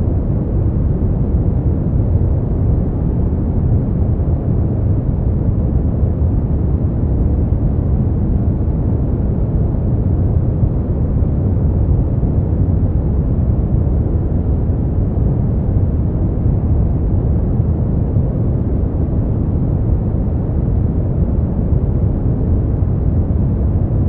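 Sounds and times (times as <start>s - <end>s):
deep rushing brown noise: 0.0s - 24.0s.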